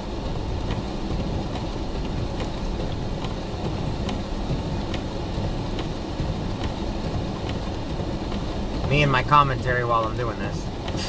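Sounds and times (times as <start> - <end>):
engine and tyre rumble: 0.0 - 11.0
faint clicking: 0.6 - 11.0.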